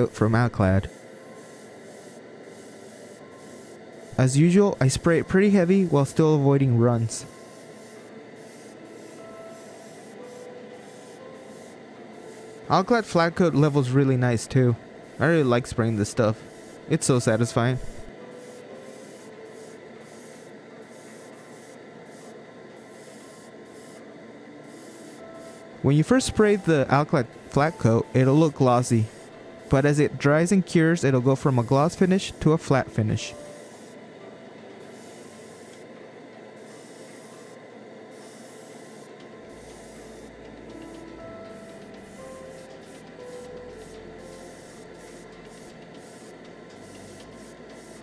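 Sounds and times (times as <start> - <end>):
airbrush spraying: 0.0 - 26.8, 27.4 - 34.0, 34.8 - 35.9, 36.6 - 48.0.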